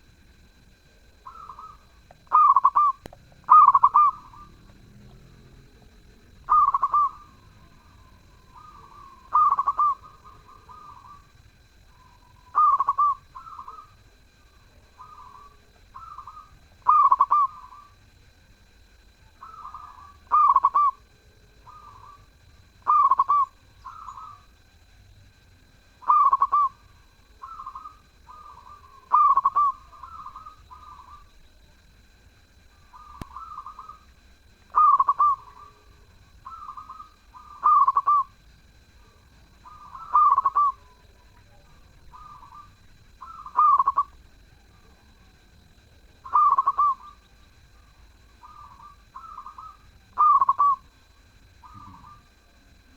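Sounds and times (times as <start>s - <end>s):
dove cooing: 0.0s - 18.2s, 19.2s - 24.5s, 25.9s - 32.0s, 32.6s - 52.9s.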